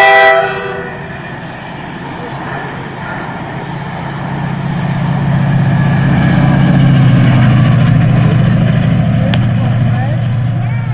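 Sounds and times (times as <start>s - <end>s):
diesel train engine humming: 0.0s - 10.9s.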